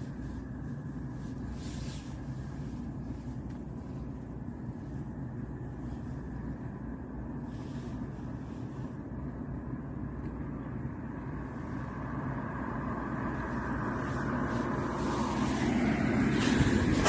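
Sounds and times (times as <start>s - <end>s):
passing road vehicle: 0.0s - 17.0s.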